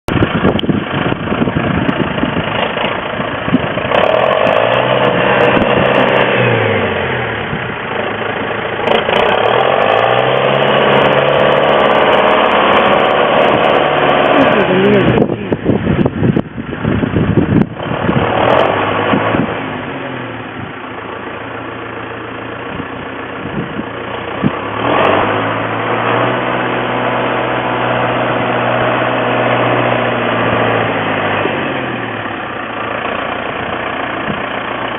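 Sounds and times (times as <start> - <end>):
tractor engine revving: 0.0 - 34.9.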